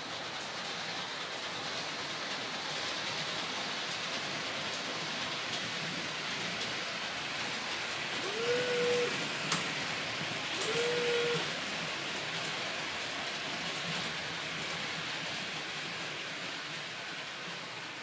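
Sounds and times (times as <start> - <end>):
model trains rolling on track: 0.0 - 18.0.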